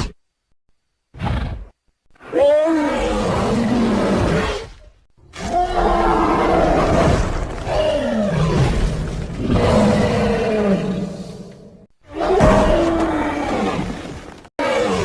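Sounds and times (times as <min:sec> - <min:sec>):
dinosaur roar: 0:02.2 - 0:15.0.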